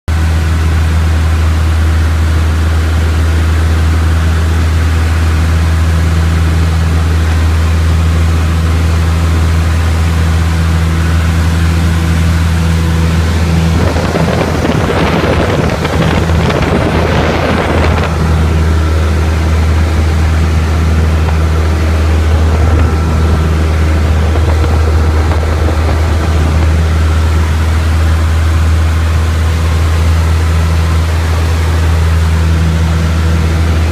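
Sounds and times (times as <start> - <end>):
aircraft engine and propeller droning: 0.1 - 33.9
rough rushing noise: 1.4 - 33.9.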